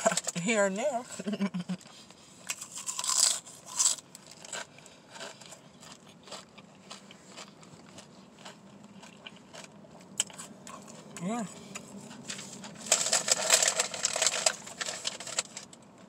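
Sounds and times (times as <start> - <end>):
crunchy snack being chewed: 2.4 - 15.7.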